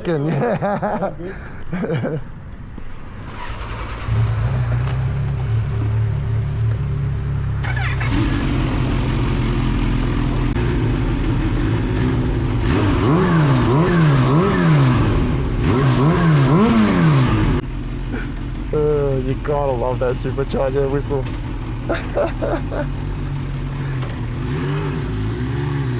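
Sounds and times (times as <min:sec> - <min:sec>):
motorcycle engine revving: 0:03.3 - 0:25.9.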